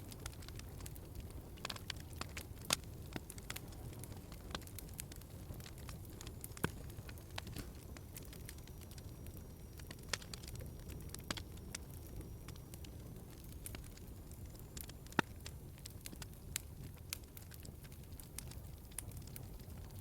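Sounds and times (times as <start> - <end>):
log fire crackling: 0.0 - 20.0.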